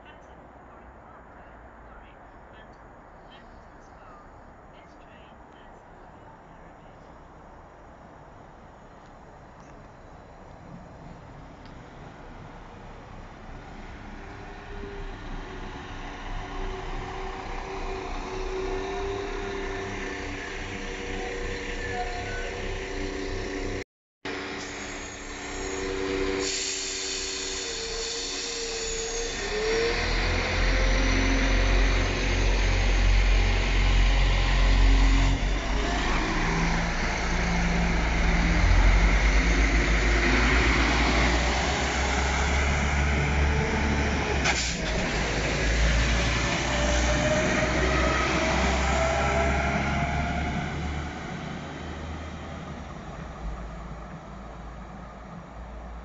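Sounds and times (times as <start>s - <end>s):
diesel train engines whining: 0.0s - 56.0s
train deep rumble: 1.7s - 56.0s.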